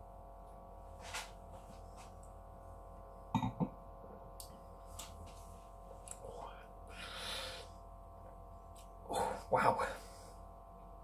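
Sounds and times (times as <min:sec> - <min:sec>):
steady room hum: 0:00.0 - 0:11.0.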